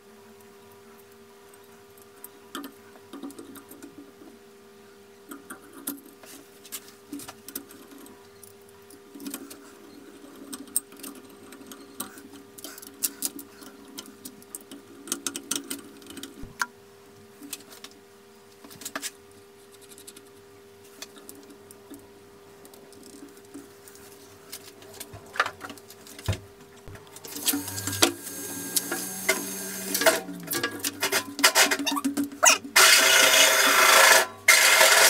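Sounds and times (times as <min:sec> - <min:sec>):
faint steady hum: 0:00.0 - 0:32.8.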